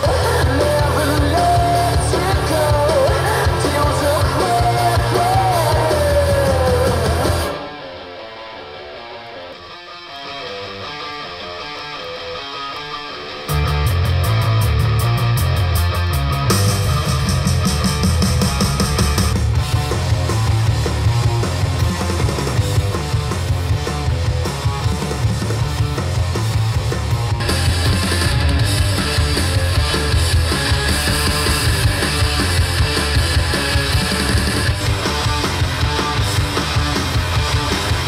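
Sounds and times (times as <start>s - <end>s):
rock music through loudspeakers: 0.0s - 38.0s.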